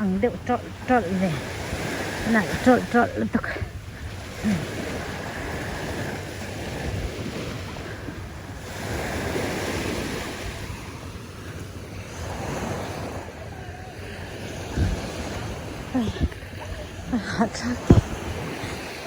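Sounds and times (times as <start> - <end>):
sea waves breaking on shore: 0.0 - 19.0
wind buffeting microphone: 0.0 - 19.0.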